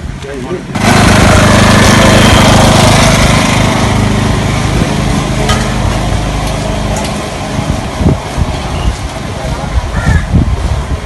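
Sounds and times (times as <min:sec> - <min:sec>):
small engine running: 0:00.5 - 0:09.9.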